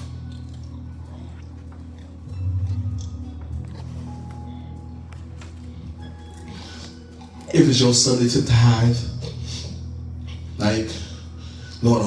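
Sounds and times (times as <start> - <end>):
church music with low bass notes: 0.0 - 12.0.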